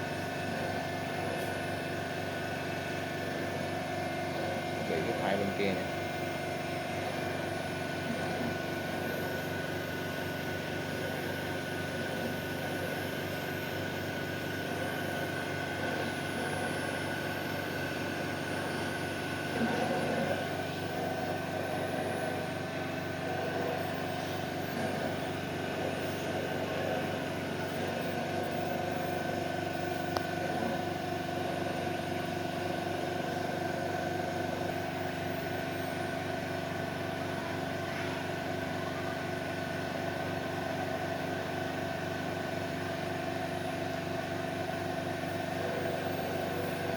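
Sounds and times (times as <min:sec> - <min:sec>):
machine humming with tones: 0:00.0 - 0:46.9.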